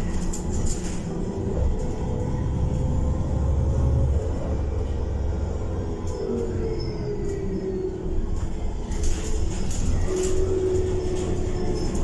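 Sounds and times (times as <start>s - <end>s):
bus engine and road rumble: 0.0s - 12.0s
faint drivetrain whine: 0.0s - 12.0s.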